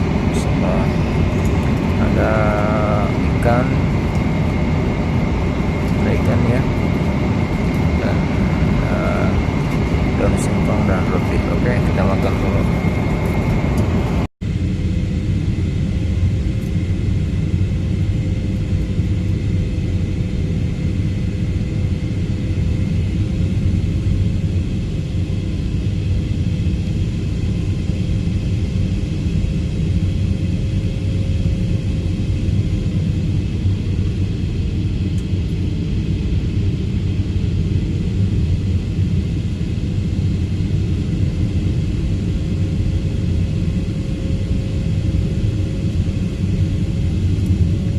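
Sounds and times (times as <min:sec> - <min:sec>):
jet cabin engine drone: 0:00.0 - 0:47.9.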